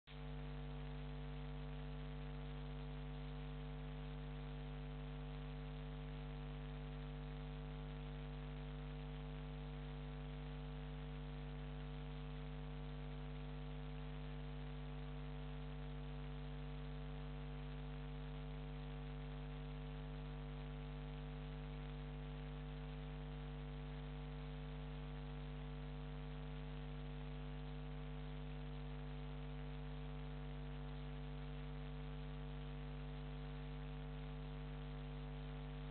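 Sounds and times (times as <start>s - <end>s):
electrical hum with hiss: 0.1s - 35.9s.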